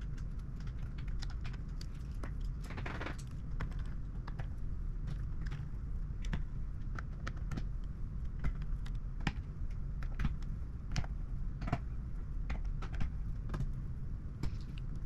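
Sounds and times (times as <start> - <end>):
light clicks of small parts: 0.0 - 13.8, 14.4 - 15.0
steady low hum: 0.0 - 15.0.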